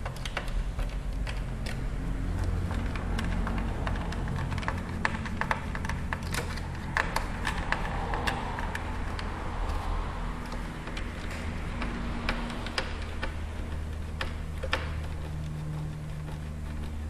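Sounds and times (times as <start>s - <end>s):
screwdriver clicking: 0.0s - 9.8s, 10.4s - 17.0s
steady low hum: 0.0s - 17.0s.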